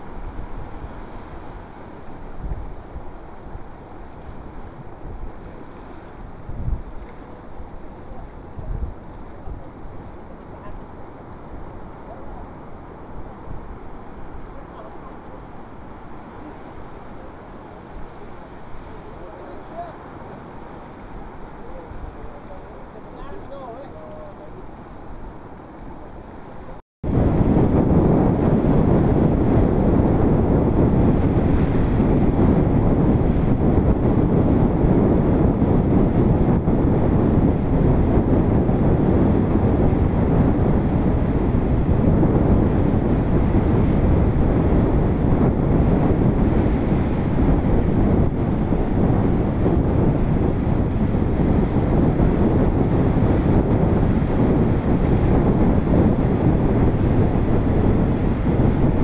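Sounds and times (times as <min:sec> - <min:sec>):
ocean surf roaring: 0:00.0 - 0:59.0.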